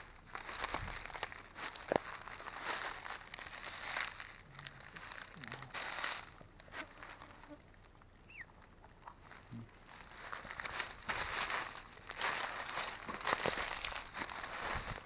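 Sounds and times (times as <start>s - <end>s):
footsteps crunching dry leaves: 0.1s - 7.2s, 9.8s - 15.0s.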